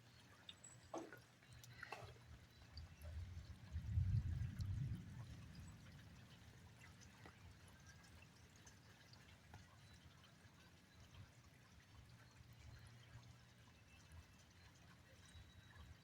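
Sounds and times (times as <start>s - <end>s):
rain dripping: 0.1s - 16.0s.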